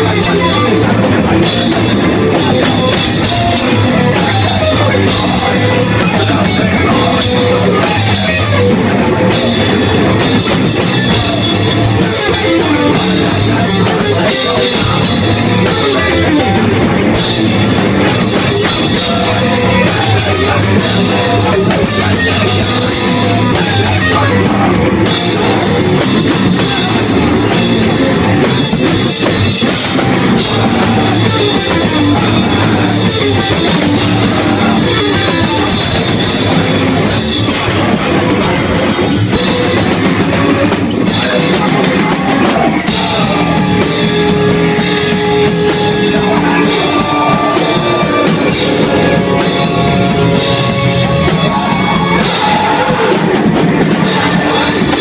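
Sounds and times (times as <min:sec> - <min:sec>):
electric guitars: 0:00.0 - 0:55.0
pounding drum kit: 0:00.0 - 0:55.0.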